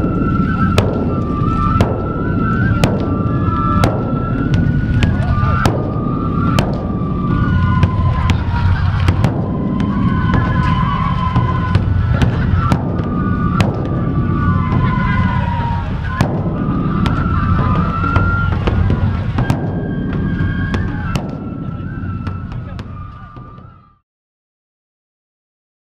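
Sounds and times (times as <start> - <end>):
high held tones: 0.0 - 23.7
large drum rumbling: 0.0 - 24.0
sharp drum cracks: 0.7 - 23.7.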